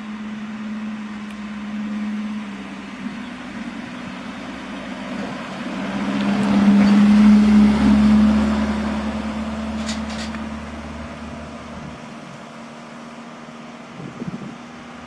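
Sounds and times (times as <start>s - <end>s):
truck engine driving past: 0.0s - 15.0s.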